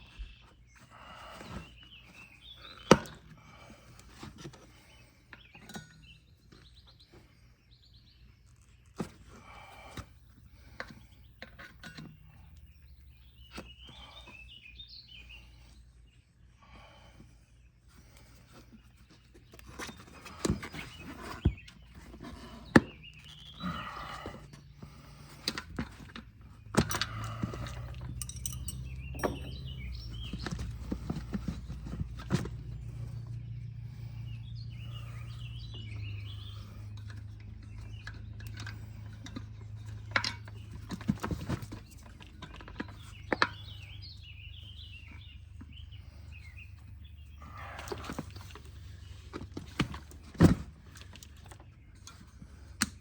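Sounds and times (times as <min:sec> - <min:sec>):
knocks and scraping on bicycle: 0:00.1 - 0:15.8, 0:17.9 - 0:53.0.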